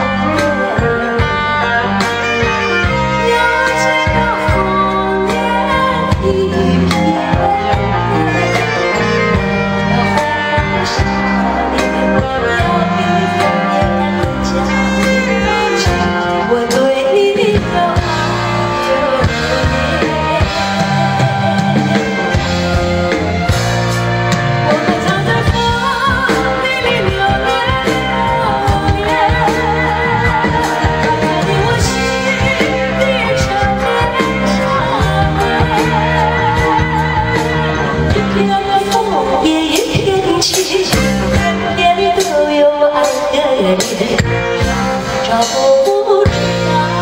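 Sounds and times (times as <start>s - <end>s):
woman singing pop song: 0.0s - 22.4s, 24.7s - 47.0s
live band with drums and guitar: 0.0s - 47.0s.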